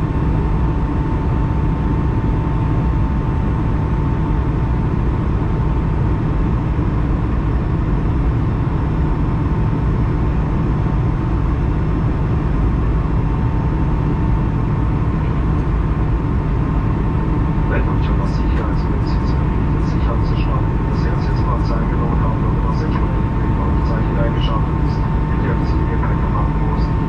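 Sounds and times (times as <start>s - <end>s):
jet engines rumbling and whining: 0.0s - 27.0s.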